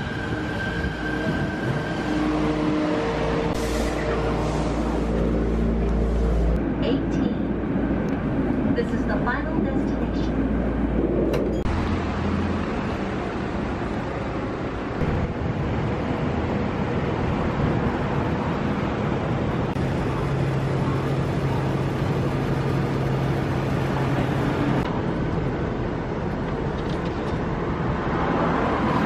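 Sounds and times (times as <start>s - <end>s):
street traffic noise: 0.0s - 29.0s.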